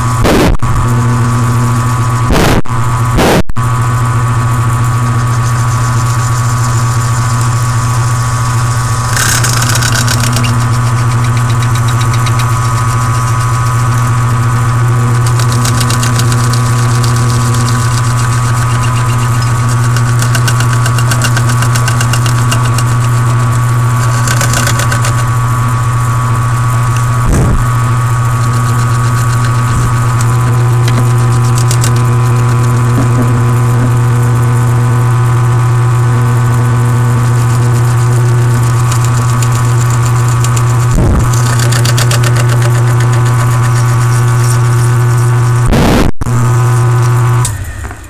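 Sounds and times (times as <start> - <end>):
milling machine motor hum: 0.0 - 48.0
end mill rasping through plastic: 4.4 - 34.6, 36.4 - 45.6.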